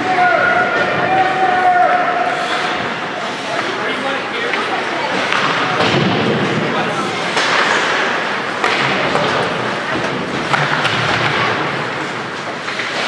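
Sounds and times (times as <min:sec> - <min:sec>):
skate stick and crowd noise: 0:00.0 - 0:13.0.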